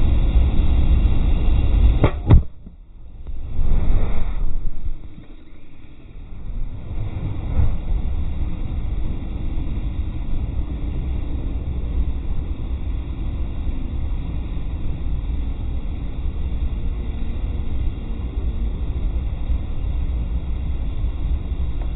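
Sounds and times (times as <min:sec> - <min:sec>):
fire burning: 0:00.0 - 0:21.9
space heater rumbling: 0:00.0 - 0:21.9.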